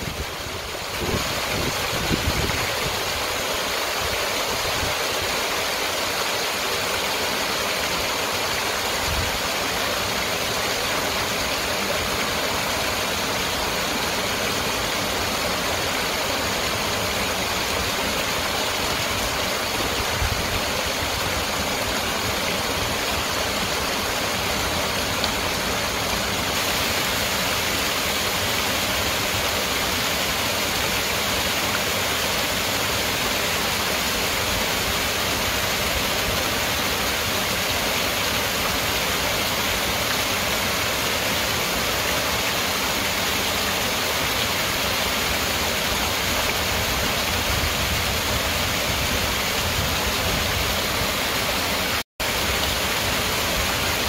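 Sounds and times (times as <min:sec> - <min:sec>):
waterfall splashing into pool: 0:00.0 - 0:54.0.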